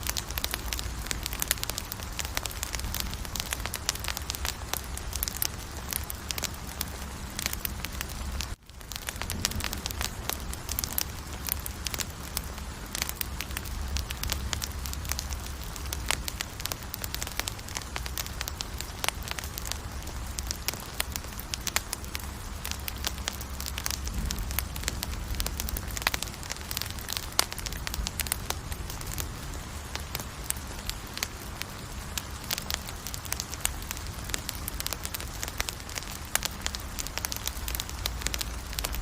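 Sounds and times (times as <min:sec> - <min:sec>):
campfire popping and crackling: 0:00.0 - 0:39.0
low rumble of fire: 0:00.0 - 0:39.0.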